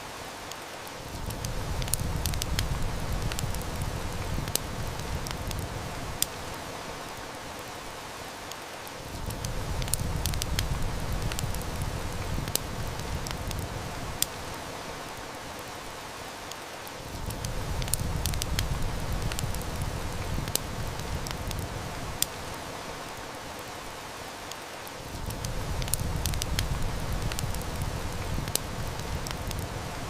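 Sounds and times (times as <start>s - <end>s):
heavy rain: 0.0s - 30.0s
wood fire crackling: 0.4s - 30.0s.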